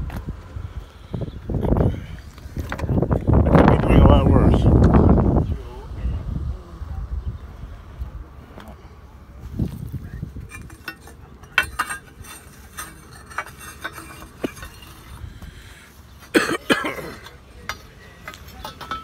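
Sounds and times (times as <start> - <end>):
road rumble: 0.0 - 19.0.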